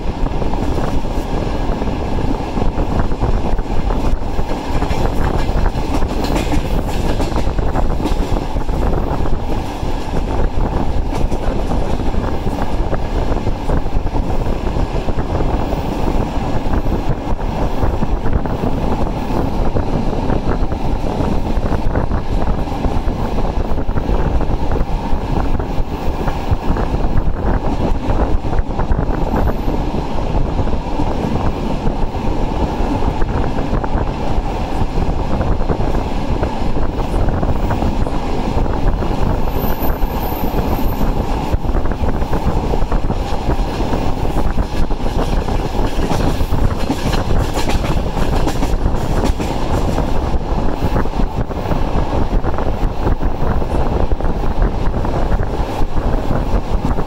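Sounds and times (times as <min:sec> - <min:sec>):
rushing air: 0:00.0 - 0:57.0
train wheels rumbling on rails: 0:00.0 - 0:57.0.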